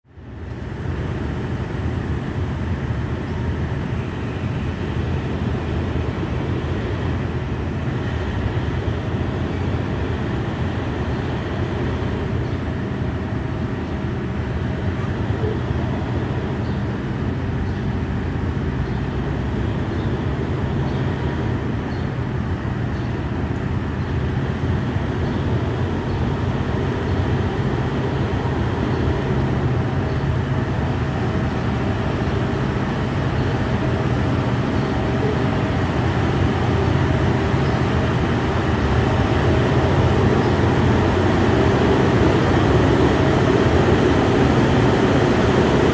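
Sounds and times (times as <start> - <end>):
train diesel engines rumbling: 0.0 - 45.9.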